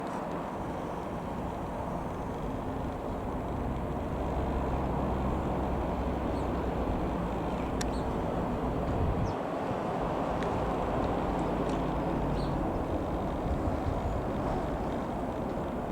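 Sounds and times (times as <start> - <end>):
small plane piston engine: 0.2 - 9.3, 10.5 - 15.9.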